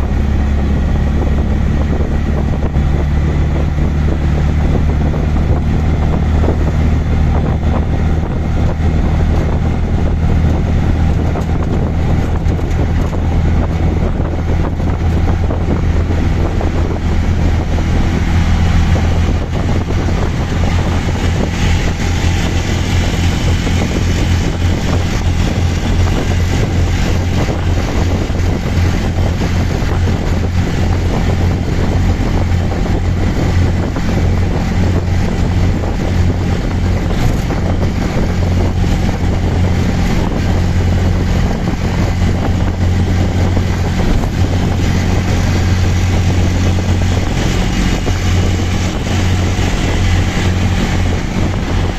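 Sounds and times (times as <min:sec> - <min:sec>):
auto rickshaw engine running: 0:00.0 - 0:51.9
road noise: 0:00.0 - 0:51.9
wind on microphone: 0:00.0 - 0:51.9.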